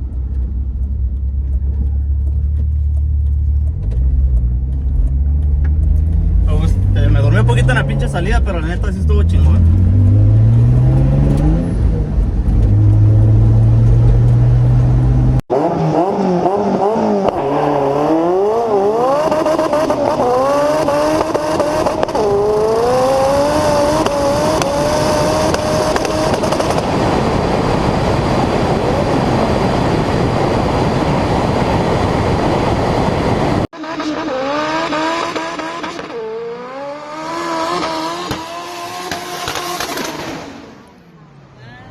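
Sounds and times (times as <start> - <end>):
road noise: 0.0 - 41.9
race car engines accelerating: 0.9 - 30.0, 33.5 - 41.9.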